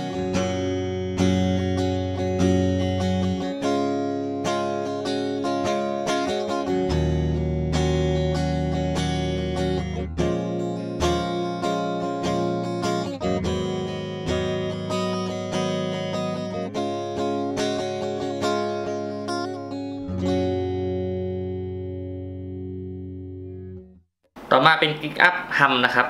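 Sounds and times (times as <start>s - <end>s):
clean electric guitar chords: 0.0s - 24.0s.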